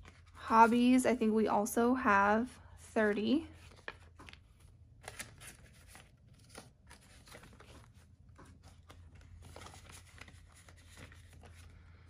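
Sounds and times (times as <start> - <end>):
banknotes rustling: 0.0 - 1.0, 2.6 - 12.0.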